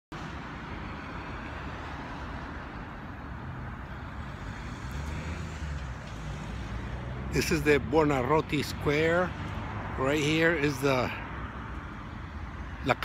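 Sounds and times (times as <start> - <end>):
street traffic hum: 0.1 - 13.0.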